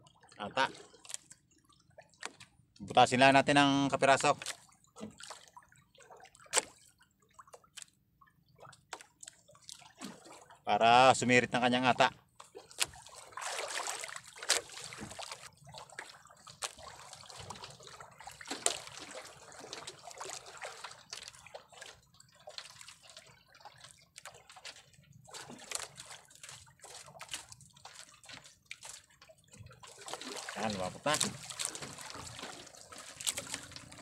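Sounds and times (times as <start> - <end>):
small splashes: 0.0 - 2.6, 4.1 - 10.6, 12.0 - 34.0
water lapping against boat: 0.0 - 34.0.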